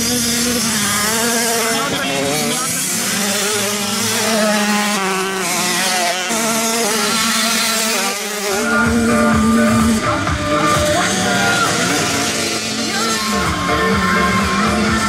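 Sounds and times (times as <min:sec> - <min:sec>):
small racing engines revving: 0:00.0 - 0:15.0.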